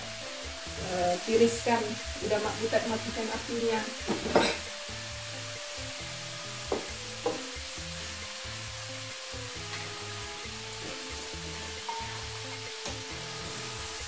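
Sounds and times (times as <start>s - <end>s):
food frying in hot oil: 0.0s - 14.0s.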